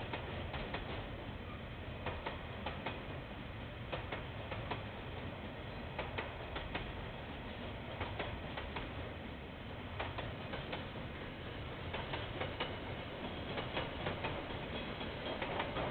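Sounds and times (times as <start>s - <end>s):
train wheels clicking over rail joints: 0.0s - 1.2s, 2.0s - 3.2s, 3.9s - 9.1s, 9.9s - 15.9s
low rumble of passing train: 0.0s - 15.9s.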